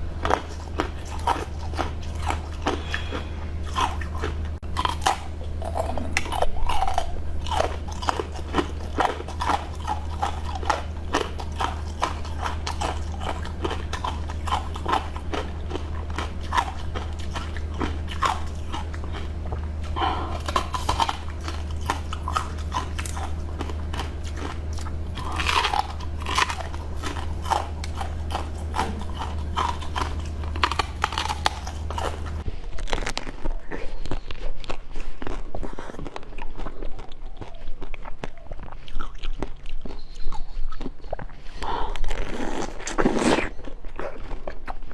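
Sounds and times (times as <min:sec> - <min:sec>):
crisp crunching bites and chewing: 0:00.0 - 0:44.9.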